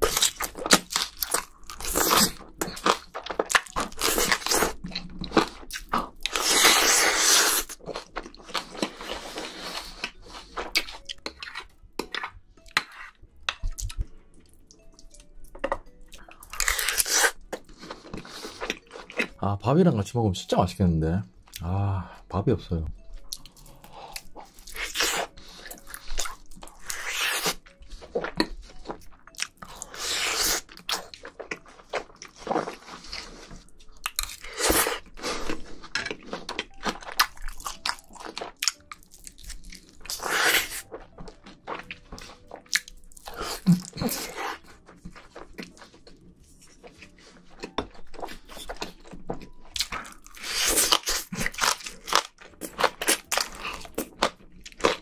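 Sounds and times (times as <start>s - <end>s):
crunchy chewing: 0.0s - 19.4s, 23.2s - 55.0s.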